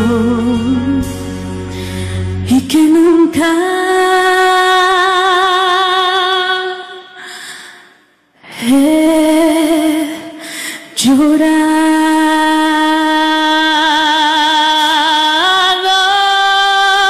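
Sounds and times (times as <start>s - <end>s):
woman singing with vibrato: 0.0s - 7.5s, 8.5s - 17.0s.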